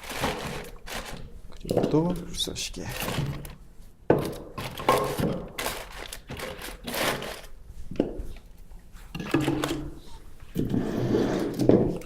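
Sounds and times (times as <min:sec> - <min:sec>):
rustling and scraping: 0:00.0 - 0:12.0.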